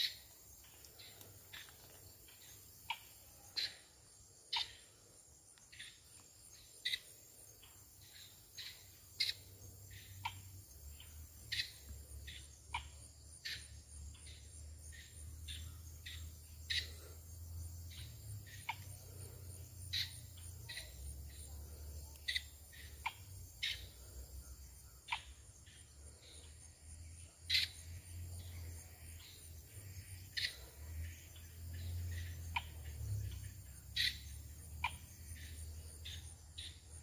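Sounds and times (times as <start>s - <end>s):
high insect trill: 0.0s - 37.0s.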